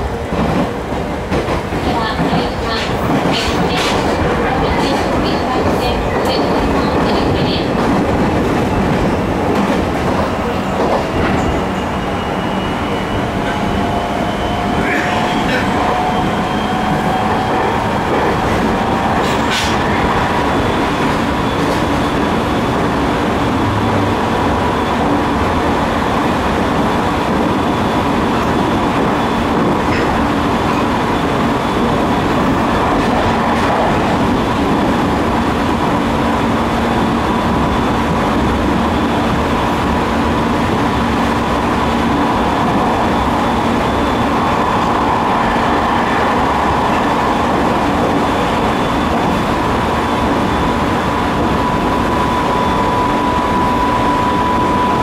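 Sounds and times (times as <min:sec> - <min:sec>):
train wheels and motors rumbling: 0:00.0 - 0:55.0.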